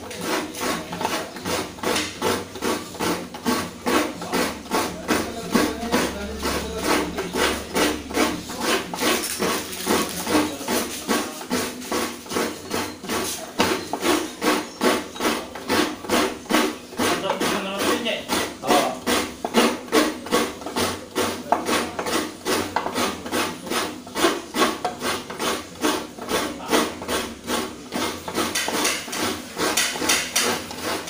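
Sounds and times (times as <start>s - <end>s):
coconut grater rasping: 0.0s - 31.0s.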